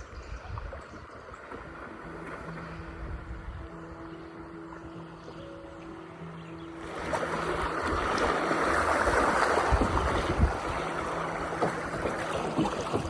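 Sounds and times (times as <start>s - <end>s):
creek water rushing and splashing: 0.0s - 13.0s.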